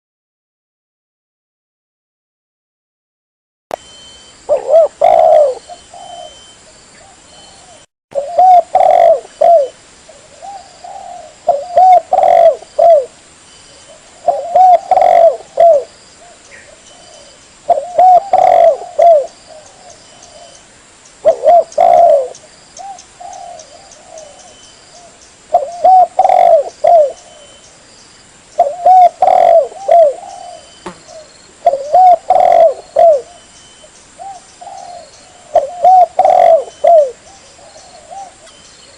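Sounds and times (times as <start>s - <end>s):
dove cooing: 4.5s - 13.2s, 13.8s - 20.6s, 21.2s - 27.6s, 28.6s - 38.9s.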